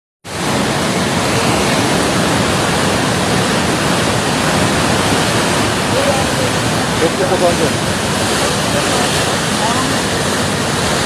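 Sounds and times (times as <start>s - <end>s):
rushing floodwater: 0.3s - 11.0s.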